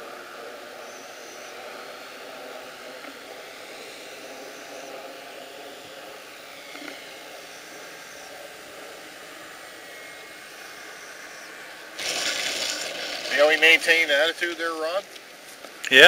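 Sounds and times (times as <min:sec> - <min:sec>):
model plane motor whining: 0:00.0 - 0:16.0
steady hiss: 0:00.0 - 0:16.0.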